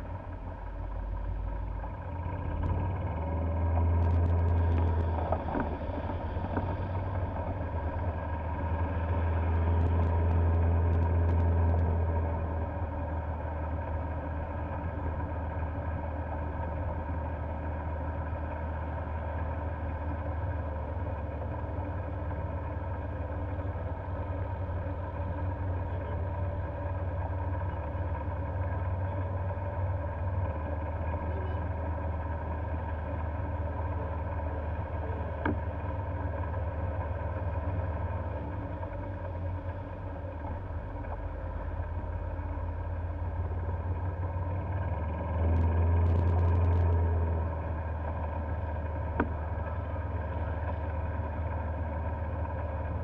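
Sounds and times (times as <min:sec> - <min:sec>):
golf cart drone: 0:00.0 - 0:53.0.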